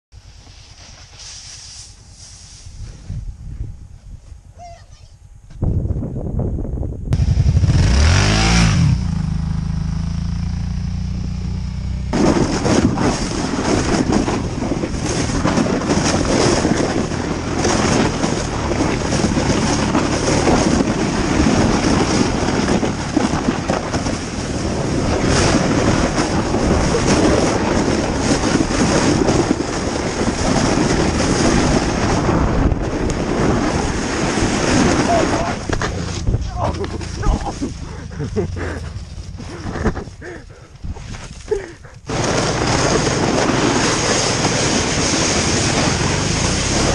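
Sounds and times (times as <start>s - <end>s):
wind on microphone: 2.6s - 9.6s, 12.0s - 46.9s
quad bike engine: 7.1s - 46.9s
sled rushing over snow: 7.1s - 46.9s.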